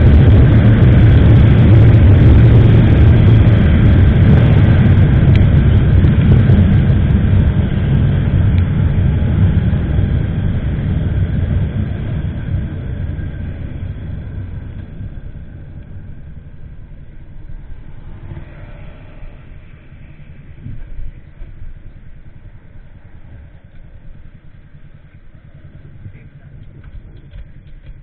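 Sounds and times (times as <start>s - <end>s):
wind rush: 0.0s - 26.2s
motorcycle engine: 0.0s - 28.0s.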